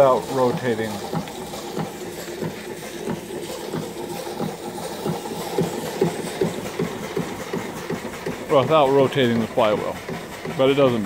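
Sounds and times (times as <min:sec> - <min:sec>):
steam engine chuffing: 0:00.0 - 0:11.0.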